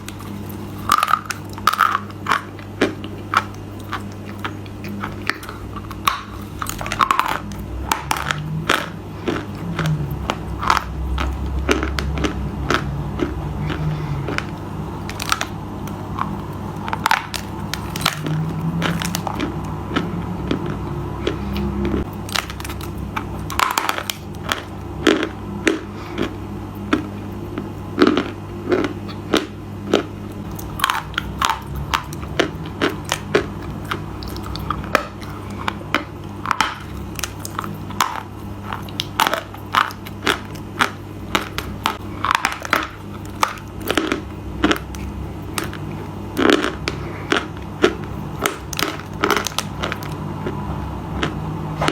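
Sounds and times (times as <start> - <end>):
crunchy food chewing: 0.0 - 51.9
low hum: 0.0 - 51.9.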